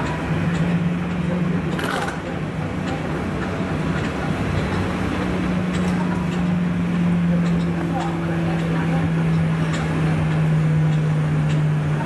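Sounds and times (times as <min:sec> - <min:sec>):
low mechanical hum: 0:00.0 - 0:12.0
murmur of voices: 0:00.0 - 0:12.0.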